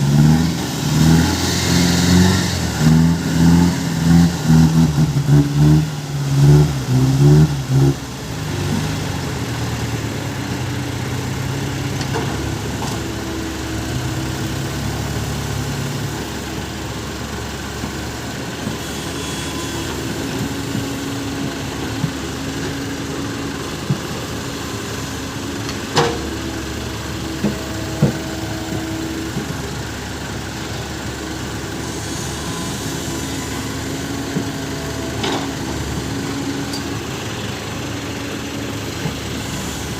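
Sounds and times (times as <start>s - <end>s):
truck engine revving and idling: 0.0s - 39.9s.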